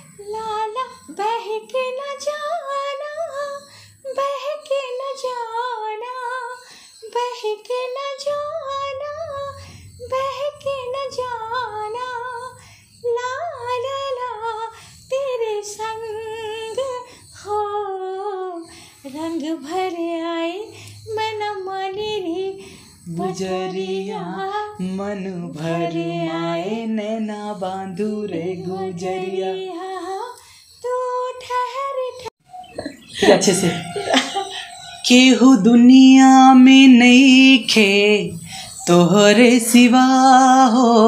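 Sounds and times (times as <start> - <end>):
woman singing unaccompanied: 0.0 - 41.0.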